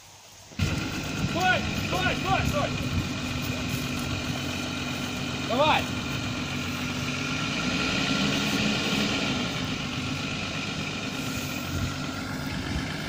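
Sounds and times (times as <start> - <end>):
engine running steadily: 0.5 - 13.0.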